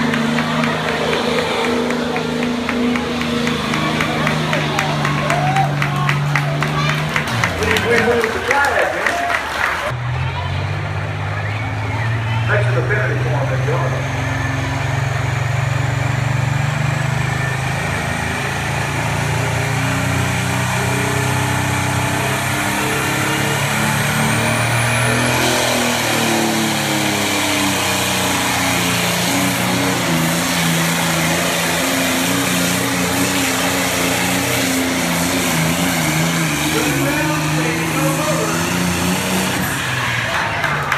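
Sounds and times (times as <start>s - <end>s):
tractor diesel engine running hard: 0.0s - 40.9s.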